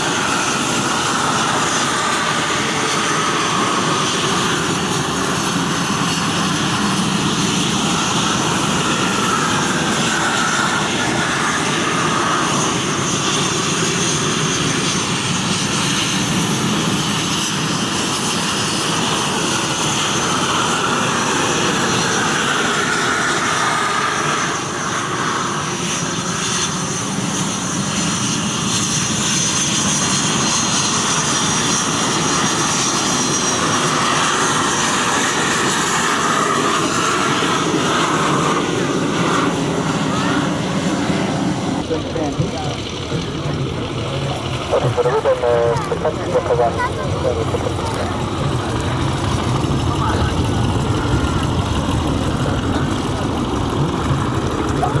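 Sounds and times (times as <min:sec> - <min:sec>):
airplane engine: 0:00.0 - 0:55.0.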